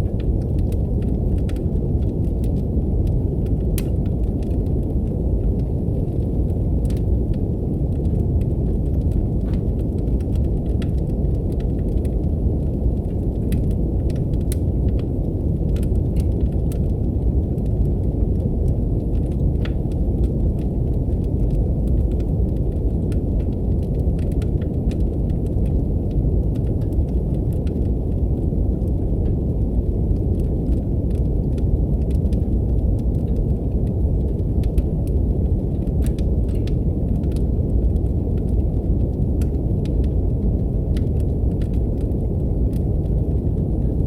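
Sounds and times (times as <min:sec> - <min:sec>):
brown noise hiss: 0:00.0 - 0:44.0
wood fire crackling: 0:00.0 - 0:44.0.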